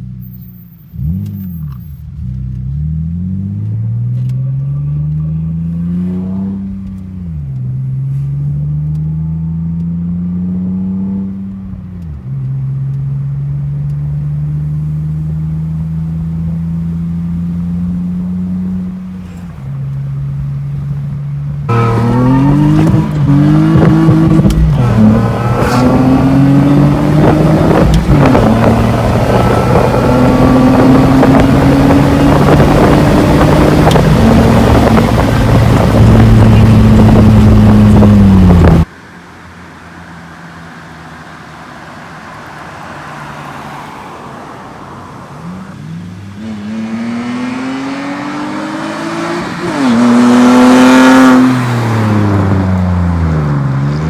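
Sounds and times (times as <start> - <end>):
car engine accelerating hard: 0.9 - 38.9, 40.7 - 54.0.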